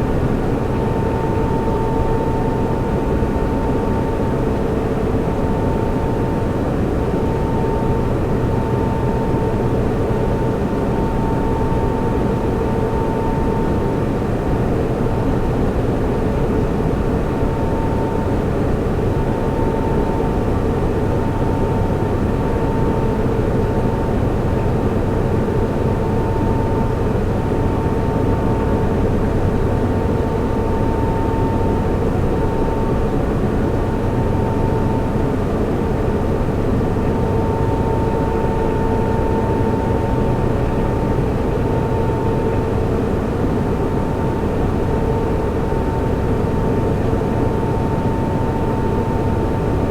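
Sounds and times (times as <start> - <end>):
constant hum with tones: 0.0 - 49.9
cooling fans rushing: 0.0 - 49.9.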